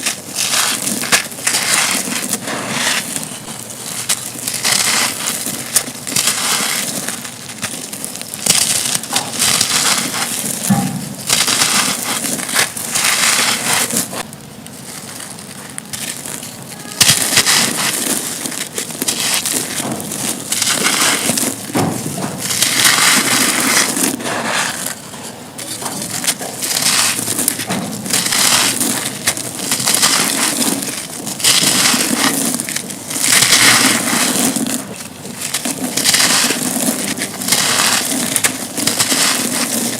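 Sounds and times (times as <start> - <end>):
concrete chunks being crushed: 0.0 - 39.9.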